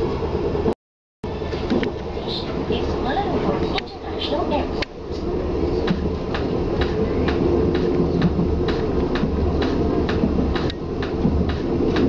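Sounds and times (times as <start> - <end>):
train rumbling: 0.0 - 12.0
sharp train clicks: 1.6 - 12.0.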